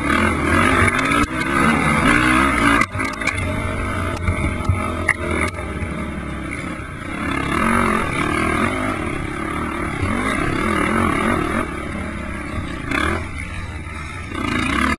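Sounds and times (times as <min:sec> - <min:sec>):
low rumble of wind: 0:00.0 - 0:14.0
quad engine revving hard: 0:00.0 - 0:14.9.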